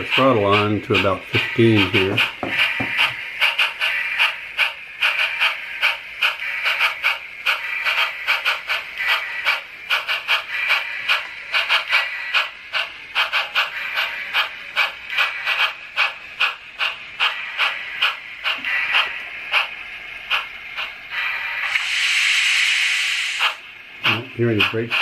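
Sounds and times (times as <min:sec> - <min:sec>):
model steam locomotive clicking: 0:00.0 - 0:25.0
steam hiss: 0:00.0 - 0:25.0.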